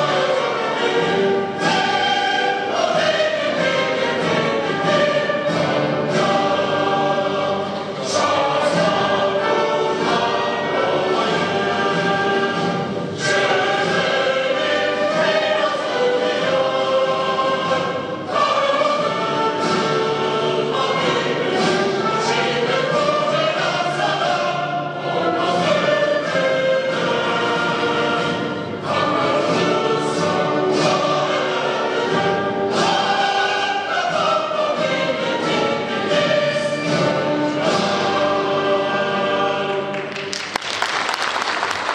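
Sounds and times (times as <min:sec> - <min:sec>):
choir singing with orchestra: 0:00.0 - 0:41.9.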